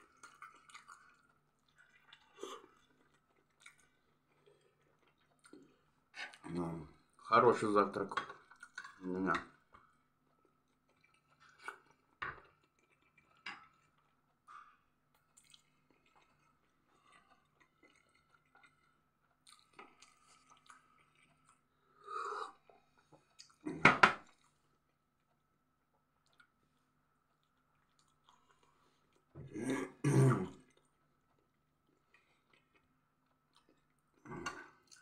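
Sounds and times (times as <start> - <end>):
person chewing food: 0.0 - 7.2, 8.2 - 35.0.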